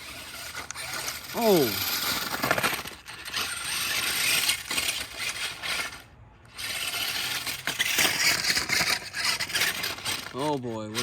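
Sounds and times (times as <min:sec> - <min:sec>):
toy truck motor whirring: 0:00.0 - 0:11.0.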